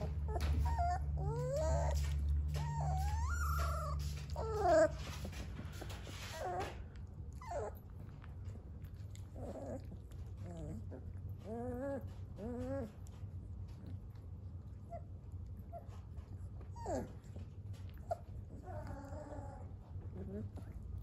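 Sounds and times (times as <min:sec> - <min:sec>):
puppies whining and squeaking: 0:00.0 - 0:14.1, 0:14.7 - 0:21.0.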